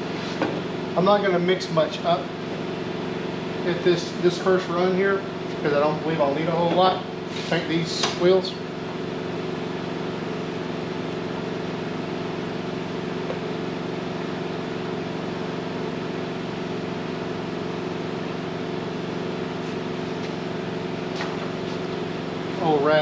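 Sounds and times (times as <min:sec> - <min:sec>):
motor humming: 0:02.0 - 0:23.0.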